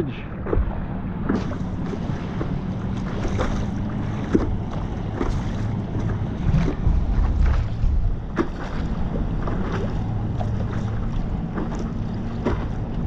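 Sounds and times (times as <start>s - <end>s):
small waves splashing: 0.0s - 13.0s
steady low hum: 0.0s - 13.0s
wind buffeting microphone: 0.0s - 13.0s.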